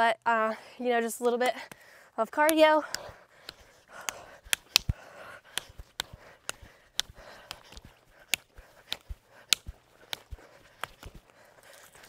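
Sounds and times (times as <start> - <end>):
woman breathing: 1.5 - 12.0.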